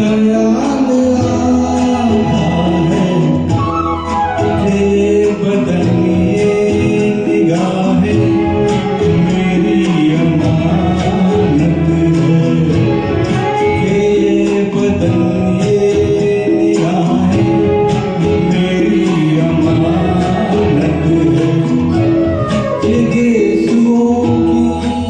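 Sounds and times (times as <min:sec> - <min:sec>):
backing track with strings and guitar: 0:00.0 - 0:25.0
person singing karaoke: 0:00.0 - 0:25.0.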